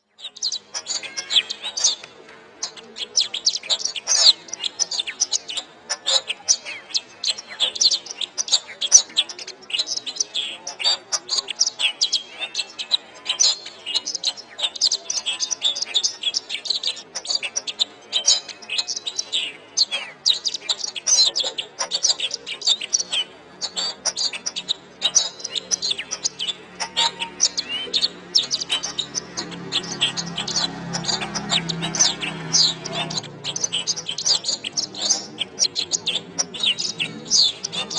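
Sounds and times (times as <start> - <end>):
canary singing: 0.0 - 37.9.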